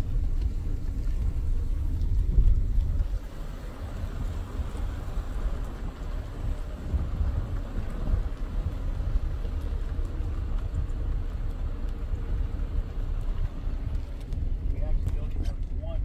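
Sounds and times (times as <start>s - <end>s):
car engine rumble: 0.0s - 16.0s
road noise: 0.0s - 16.0s
wind buffeting microphone: 0.0s - 16.0s.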